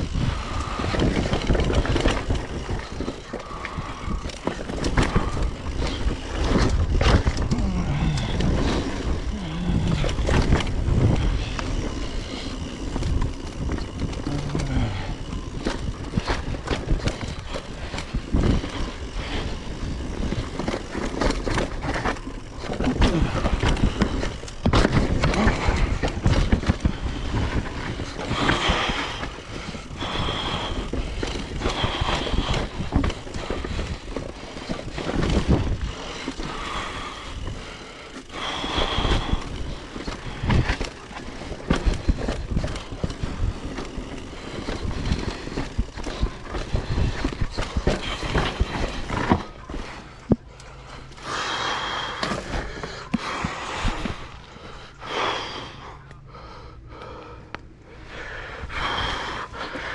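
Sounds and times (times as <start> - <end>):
bike rattling and knocking: 0.0 - 59.9
bike tyres on dirt: 0.0 - 59.9.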